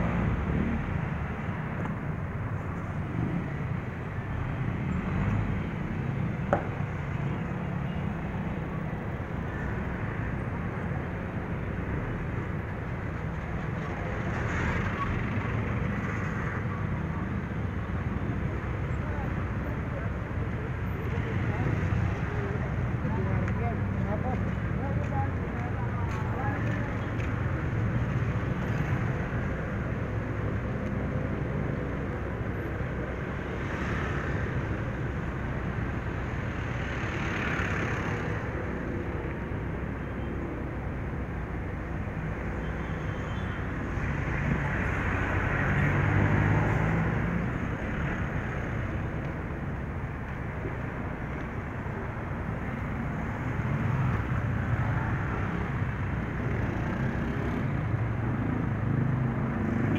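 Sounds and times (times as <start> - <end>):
roadside traffic: 0.0 - 59.9.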